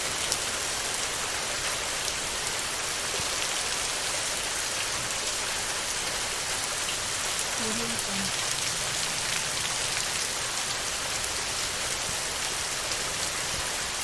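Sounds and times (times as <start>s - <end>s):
heavy rain on a tin roof: 0.0s - 14.0s.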